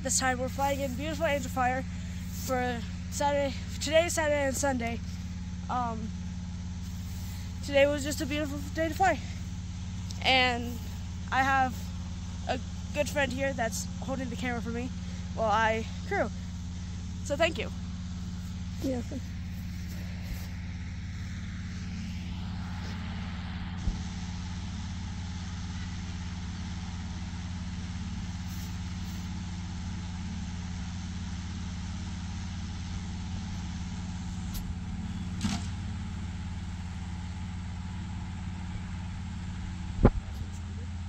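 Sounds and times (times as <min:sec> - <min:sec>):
inflation fan engine hum: 0:00.0 - 0:41.0.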